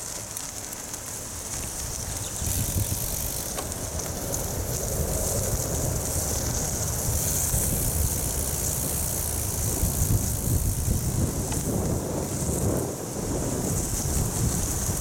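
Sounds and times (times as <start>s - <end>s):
bicycle tyres on gravel: 0.0s - 15.0s
wind buffeting microphone: 1.7s - 15.0s.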